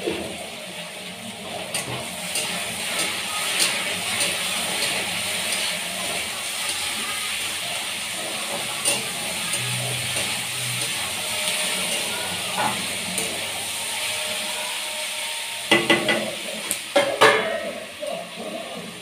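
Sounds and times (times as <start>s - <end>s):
vegetables sizzling in a pan: 0.0s - 19.0s
metal ladle scraping a pan: 1.4s - 18.9s.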